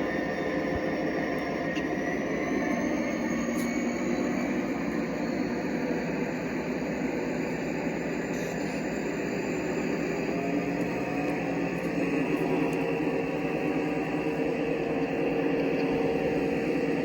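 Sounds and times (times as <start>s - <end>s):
model train rumbling on track: 2.3s - 17.0s.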